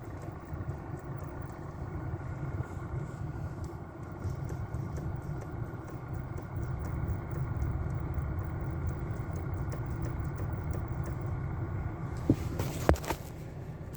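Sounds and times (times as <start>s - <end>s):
car engine rumbling: 0.0s - 13.9s.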